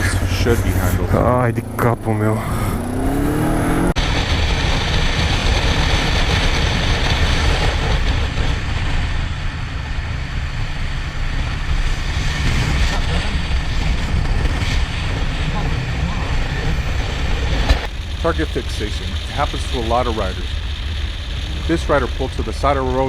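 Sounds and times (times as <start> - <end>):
road noise: 0.0 - 23.0.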